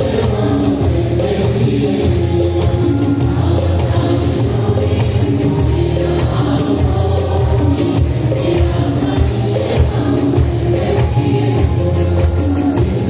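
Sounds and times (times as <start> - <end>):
fast high percussion beat: 0.0 - 13.0
live worship band music: 0.0 - 13.0.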